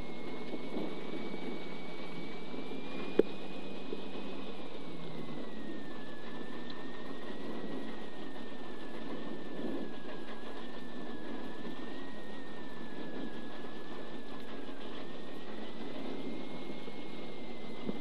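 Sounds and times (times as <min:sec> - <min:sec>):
thin high whine: 0:00.0 - 0:18.0.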